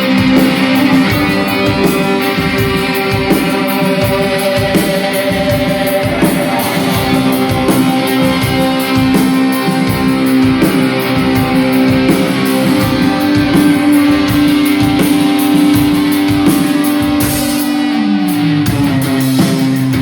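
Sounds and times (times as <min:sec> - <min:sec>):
electric guitars sustaining notes: 0:00.0 - 0:20.0
steady drum beat: 0:00.0 - 0:20.0.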